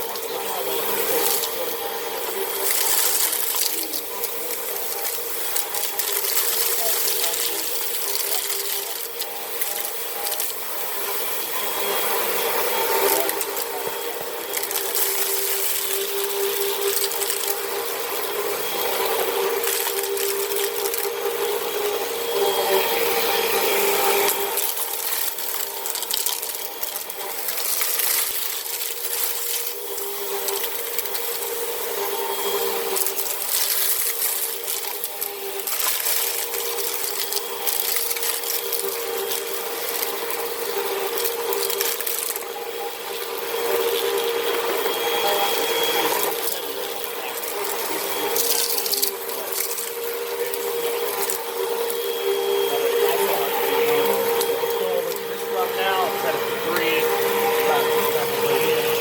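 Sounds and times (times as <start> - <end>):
debris rattling in vacuum: 0.0 - 59.0
vacuum cleaner running: 0.0 - 59.0.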